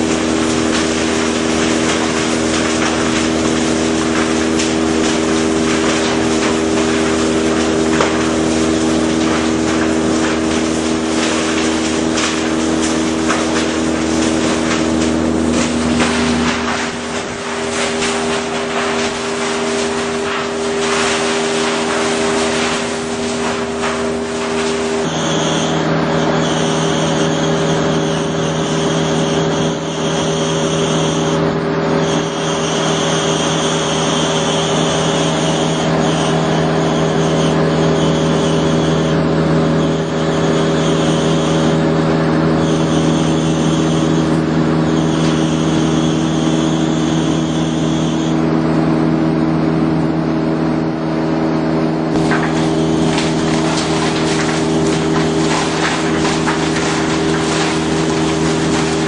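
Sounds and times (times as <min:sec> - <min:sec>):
grinder machinery humming: 0:00.0 - 0:59.0
high whine: 0:00.0 - 0:59.0.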